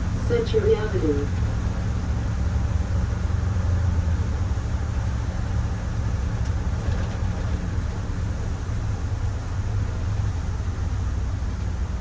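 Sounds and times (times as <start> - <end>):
bus rumble from inside cabin: 0.0 - 12.0.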